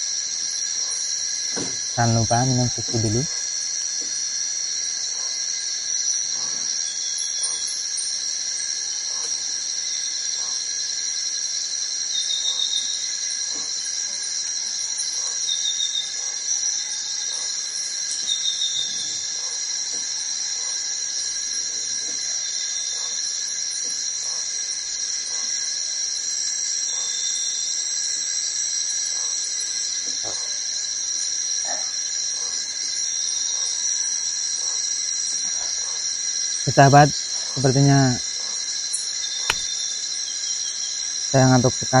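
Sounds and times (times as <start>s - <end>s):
chorus of forest insects: 0.0s - 42.0s.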